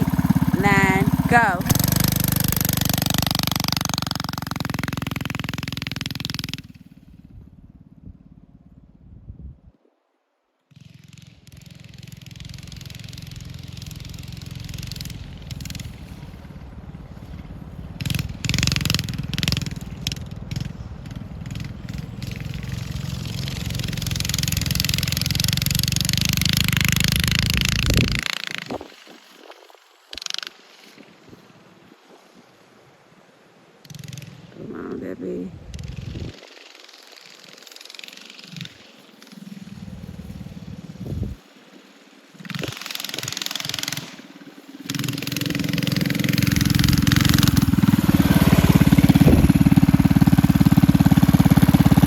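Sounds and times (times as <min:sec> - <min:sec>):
mini bike engine running: 0:00.0 - 0:09.0, 0:10.7 - 0:32.9, 0:33.8 - 0:52.0.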